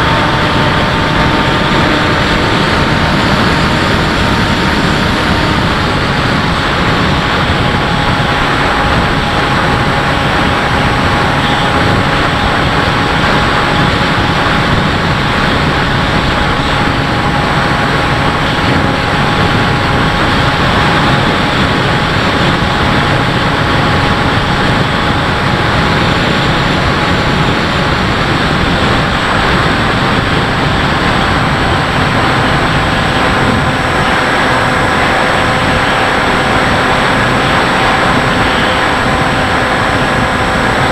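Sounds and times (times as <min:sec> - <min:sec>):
electric motor and propeller whine: 0:00.0 - 0:40.9
wind rush: 0:00.0 - 0:40.9.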